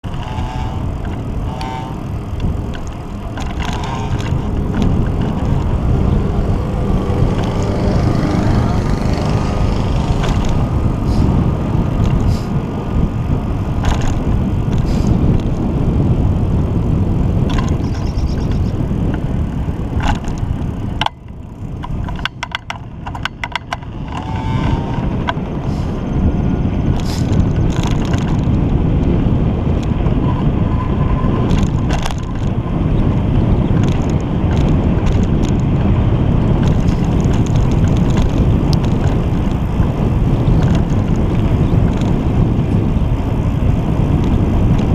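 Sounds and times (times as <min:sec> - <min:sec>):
road noise: 0:00.0 - 0:44.9
wind buffeting microphone: 0:00.0 - 0:44.9.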